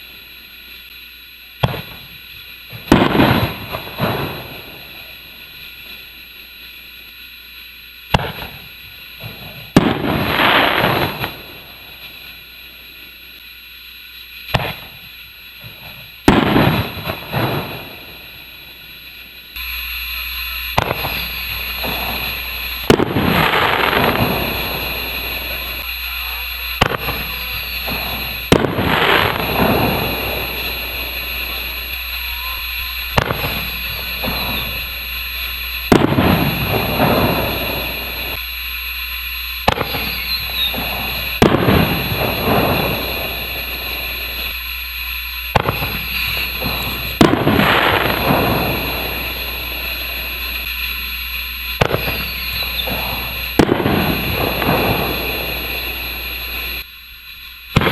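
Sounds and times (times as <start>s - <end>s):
distant firework reports: 0.0s - 57.9s
firework crackling: 0.0s - 57.9s
steady hiss: 0.0s - 57.9s.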